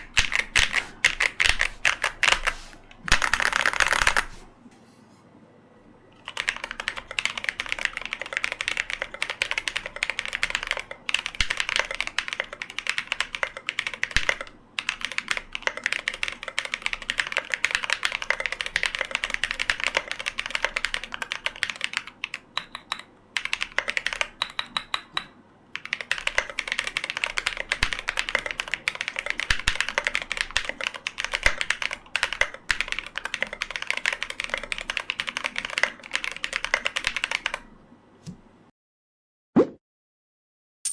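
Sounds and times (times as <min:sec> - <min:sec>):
mechanical keyboard typing: 0:00.0 - 0:04.4, 0:06.2 - 0:37.7.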